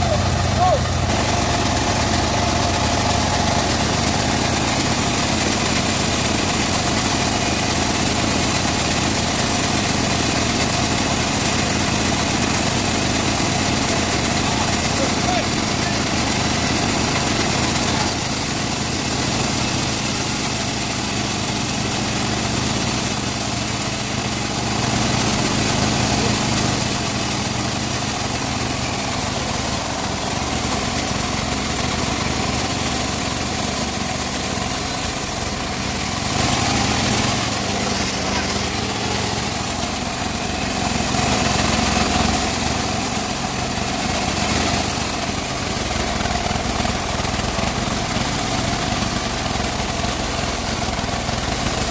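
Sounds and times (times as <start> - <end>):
band saw sawing wood: 0.0 - 51.9.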